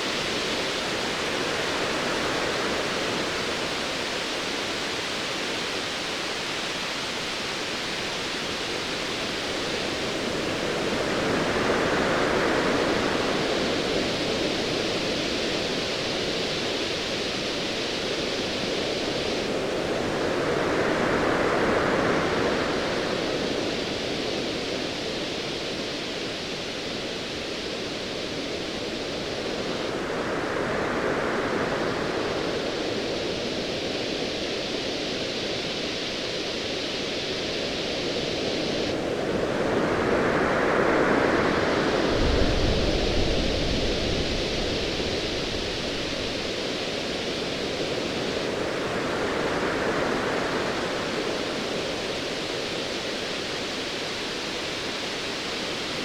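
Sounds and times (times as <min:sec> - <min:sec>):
surf hiss: 0:00.0 - 0:56.0.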